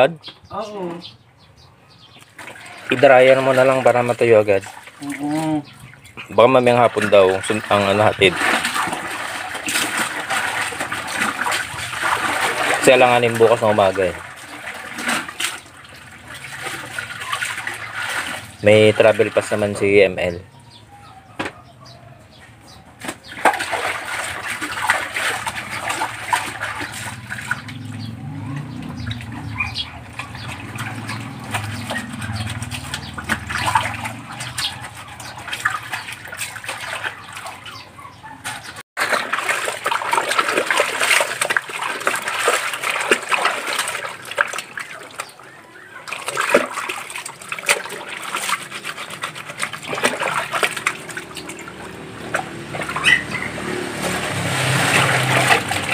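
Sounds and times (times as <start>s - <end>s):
water sloshing in basin: 2.0s - 55.9s.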